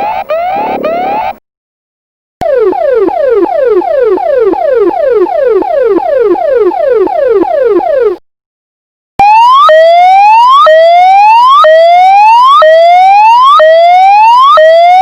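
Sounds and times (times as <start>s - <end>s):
whooping electronic alarm siren: 0.0s - 1.4s, 2.4s - 8.2s, 9.2s - 15.0s.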